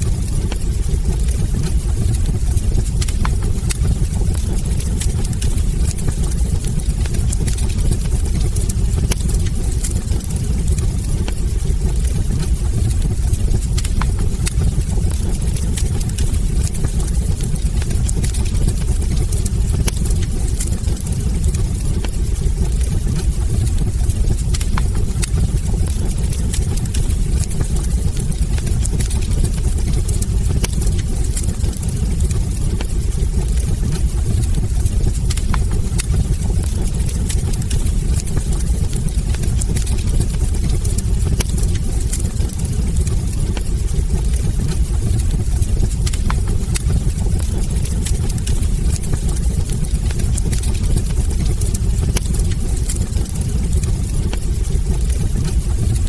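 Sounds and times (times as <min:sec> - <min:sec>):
flames roaring: 0:00.0 - 0:56.0
logs crackling and popping: 0:00.0 - 0:56.0.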